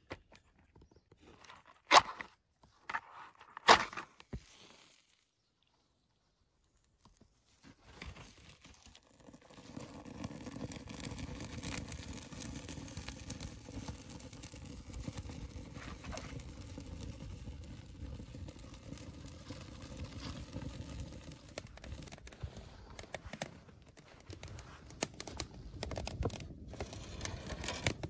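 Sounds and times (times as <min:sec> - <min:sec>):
twigs crackling in fire: 0:03.6 - 0:28.0.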